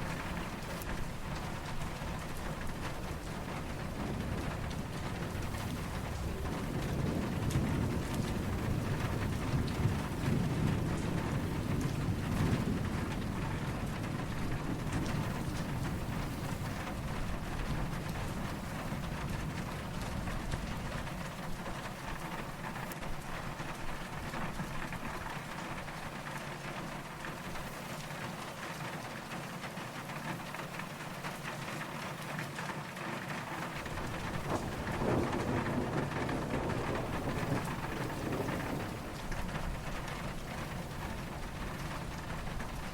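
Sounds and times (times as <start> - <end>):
distant thunder rumble: 0.0 - 25.9, 33.5 - 42.9
steady rain falling: 0.0 - 42.9.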